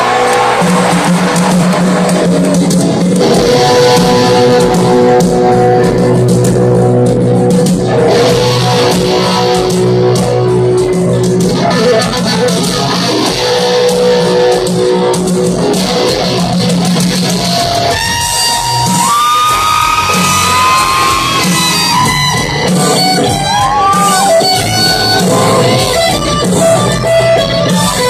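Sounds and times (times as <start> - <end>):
live rock band playing ballad: 0.0 - 28.0.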